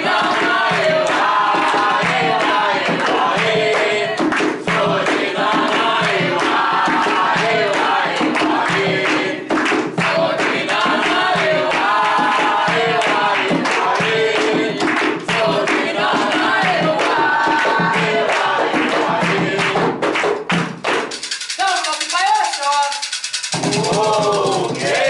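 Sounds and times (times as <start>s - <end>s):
group singing a devotional chant: 0.0s - 21.6s, 23.3s - 25.0s
rhythmic hand-clapping: 0.0s - 25.0s.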